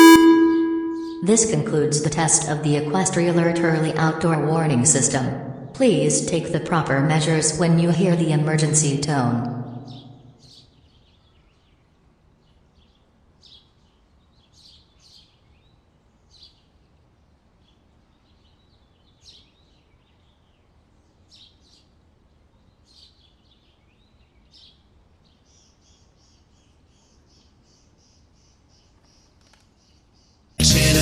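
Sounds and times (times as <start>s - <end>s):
low background noise: 0.0s - 30.6s.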